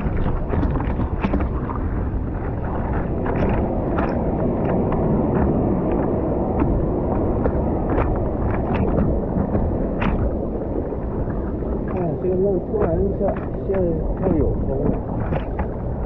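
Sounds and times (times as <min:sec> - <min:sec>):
water splashing against board: 0:00.0 - 0:16.0
wind buffeting microphone: 0:00.0 - 0:16.0.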